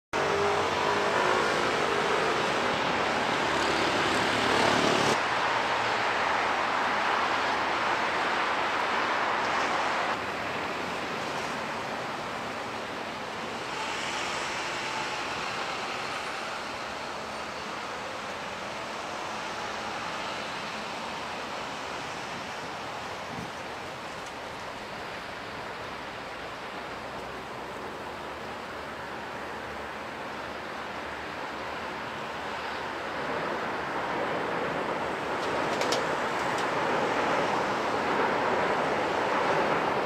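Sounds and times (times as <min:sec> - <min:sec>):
urban traffic noise: 0:00.1 - 0:40.0.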